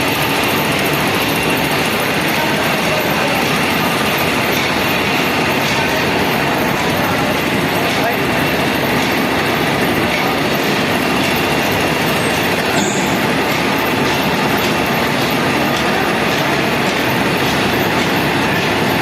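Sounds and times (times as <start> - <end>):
heavy machinery rumble and clatter: 0.0 - 19.0.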